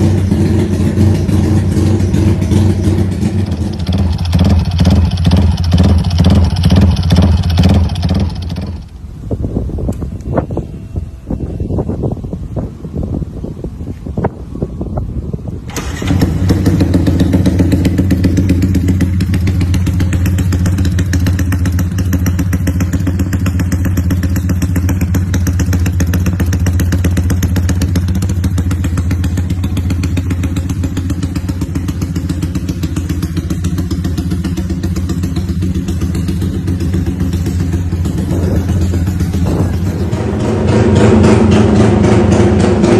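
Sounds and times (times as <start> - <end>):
motorcycle engine starting and idling: 0.0 - 9.4, 15.5 - 42.9.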